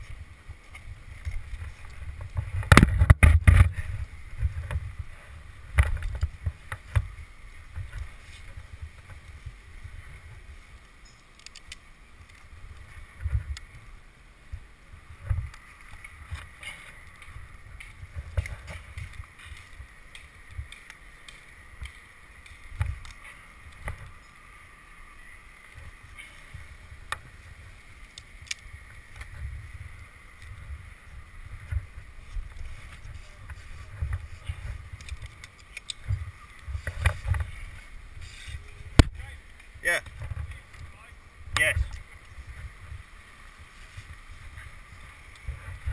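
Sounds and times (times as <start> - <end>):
faint high hiss: 3.7 - 45.9.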